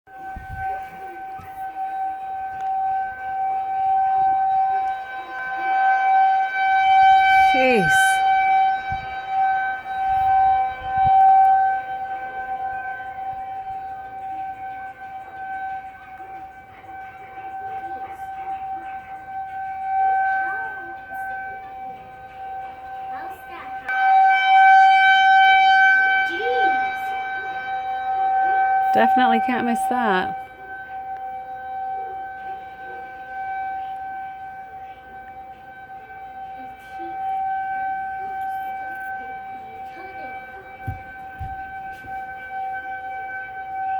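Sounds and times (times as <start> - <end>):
warning siren wailing: 0.1 - 43.9.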